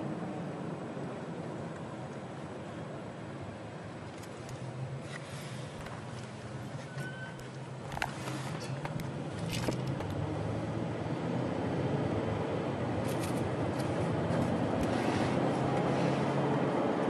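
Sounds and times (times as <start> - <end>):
van engine and road hum: 0.0 - 17.0.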